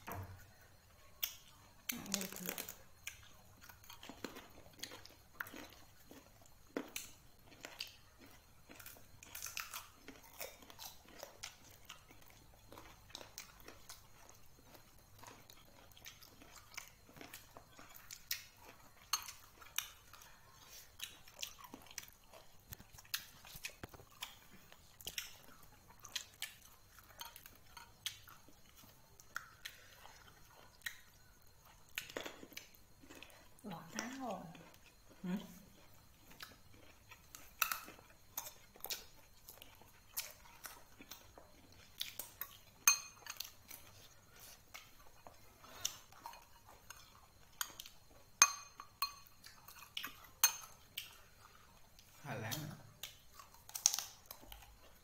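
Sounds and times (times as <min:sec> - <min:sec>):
person chewing crunchy mango: 0:00.3 - 0:55.0.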